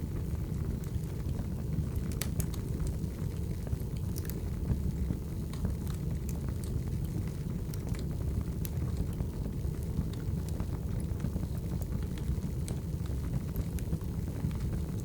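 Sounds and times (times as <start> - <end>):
burning logs crackling and popping: 0.0 - 15.0
wood fire rumble: 0.0 - 15.0.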